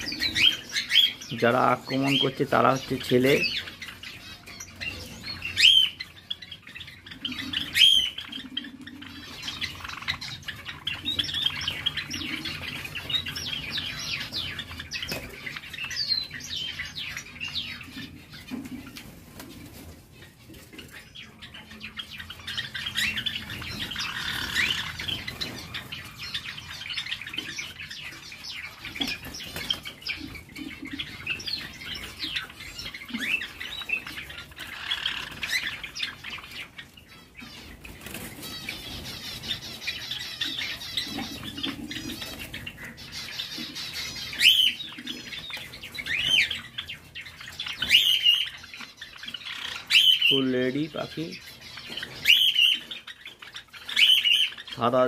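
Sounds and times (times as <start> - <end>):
sharp bird calls: 0.0 - 55.0
sparrows chirping: 0.0 - 55.0.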